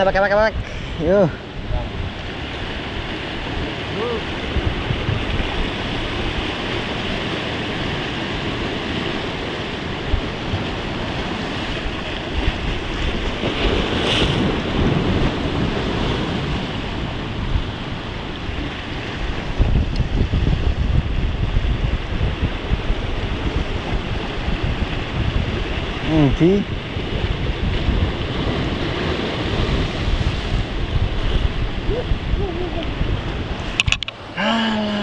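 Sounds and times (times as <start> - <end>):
sea waves breaking over rocks: 0.0 - 35.0
wind gusts on microphone: 0.0 - 35.0.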